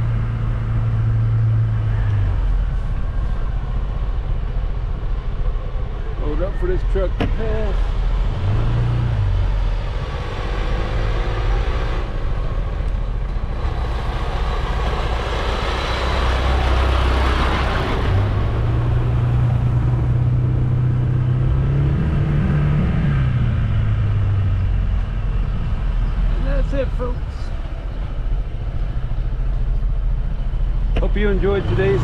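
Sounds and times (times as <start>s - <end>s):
engine running low: 0.0s - 32.0s
truck passing: 0.0s - 32.0s.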